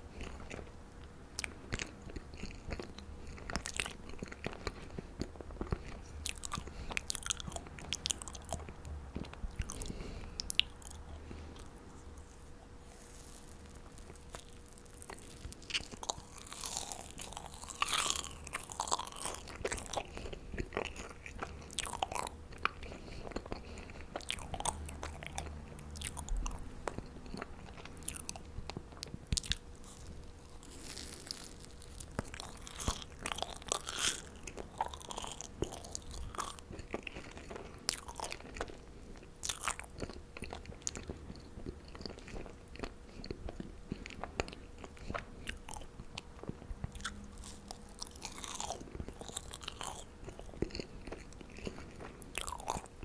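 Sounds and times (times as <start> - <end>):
chewing marshmallows: 0.0 - 53.0.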